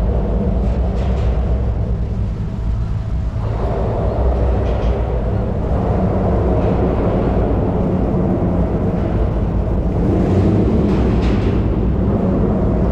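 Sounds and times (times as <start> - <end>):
outboard motor droning: 0.0 - 12.9.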